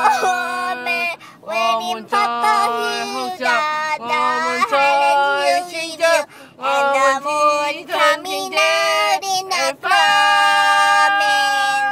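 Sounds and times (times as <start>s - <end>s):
high voice singing slow melody: 0.0s - 7.2s, 7.9s - 11.9s.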